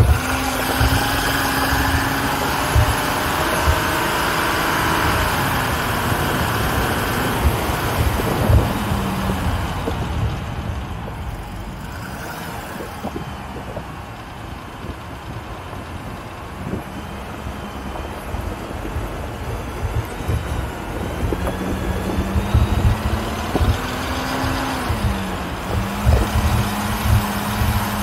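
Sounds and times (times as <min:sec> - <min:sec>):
off-road vehicle engine: 0:00.0 - 0:28.0
vehicle body knocking over bumps: 0:00.0 - 0:28.0.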